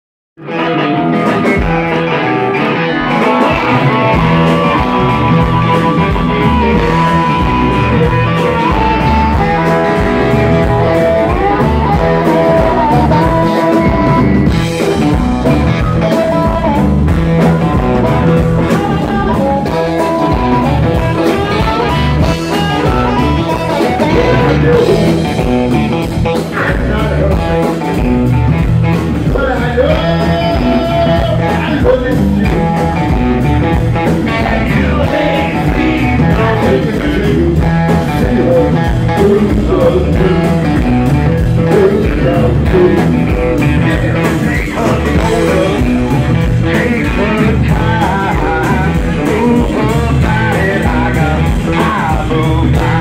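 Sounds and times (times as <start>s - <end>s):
blues-rock band playing: 0.4s - 53.0s
harmonica wailing held notes: 0.5s - 53.0s.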